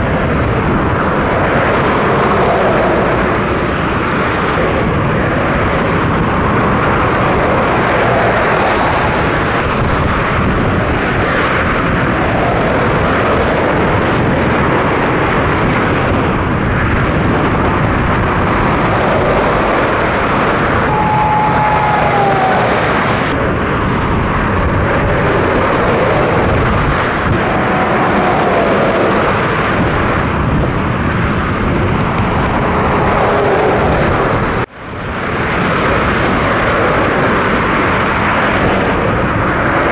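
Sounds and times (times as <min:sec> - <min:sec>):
fast motorway traffic rushing: 0:00.0 - 0:39.9
trucks and cars passing close: 0:00.0 - 0:39.9.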